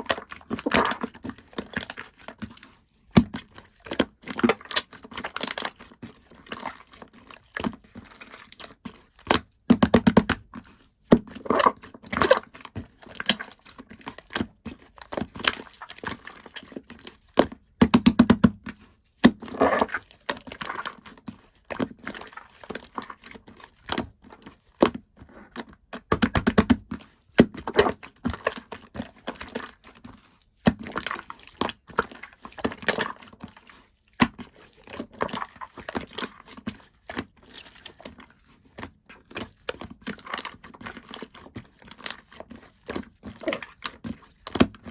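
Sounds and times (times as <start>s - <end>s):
slime squishing: 0.0s - 44.9s.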